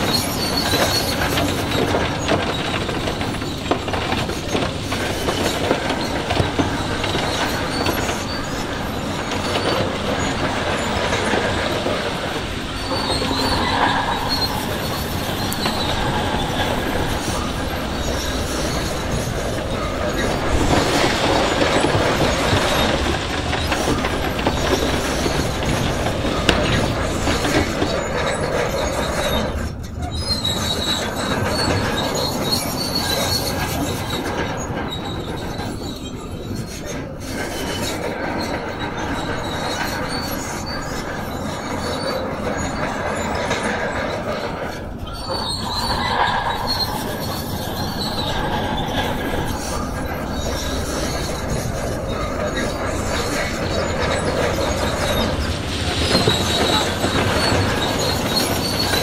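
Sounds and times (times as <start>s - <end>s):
bulldozer tracks squealing and clanking: 0.0s - 59.0s
diesel engine rumble: 0.0s - 59.0s.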